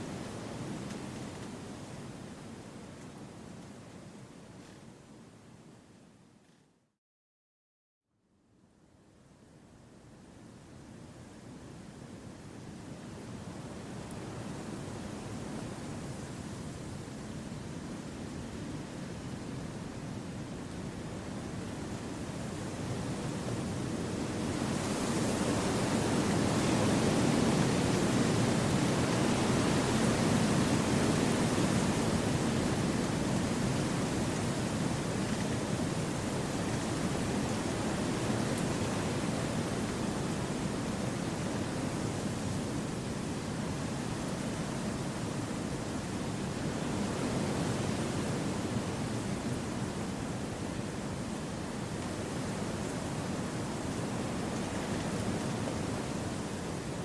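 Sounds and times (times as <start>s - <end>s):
wind rushing through trees: 10.2s - 57.0s.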